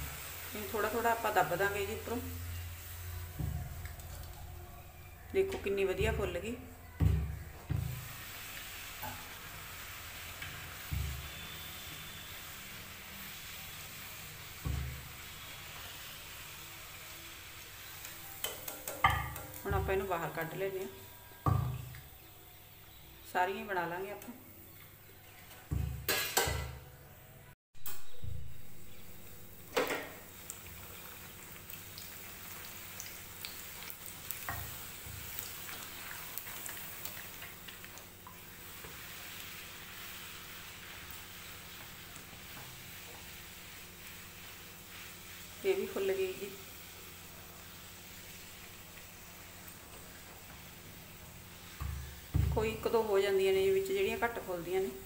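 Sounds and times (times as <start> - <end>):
oil sizzling while deep-frying: 0.0 - 26.8, 27.8 - 55.0.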